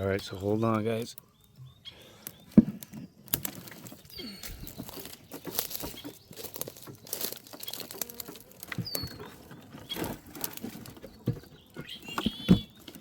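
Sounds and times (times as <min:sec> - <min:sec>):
brambles and leaves rustling: 0:02.1 - 0:13.0.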